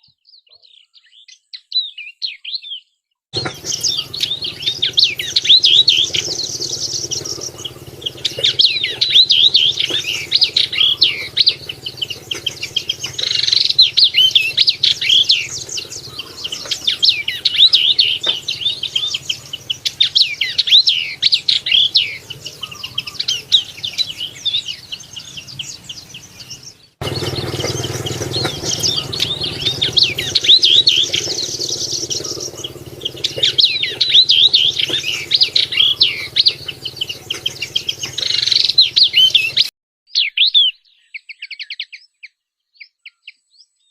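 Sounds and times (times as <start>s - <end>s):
bird singing high chirps: 0.0s - 43.9s.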